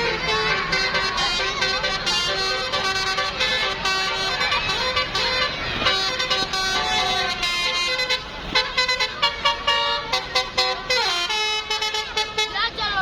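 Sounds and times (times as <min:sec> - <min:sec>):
multi-tone bus horn melody: 0:00.0 - 0:13.0.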